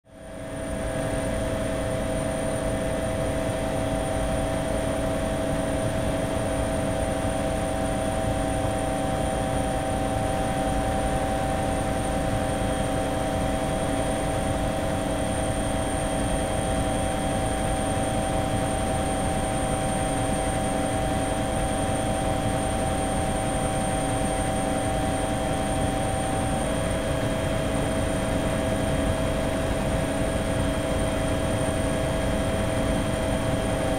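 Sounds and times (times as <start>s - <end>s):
aircraft engine drone: 0.1s - 33.9s.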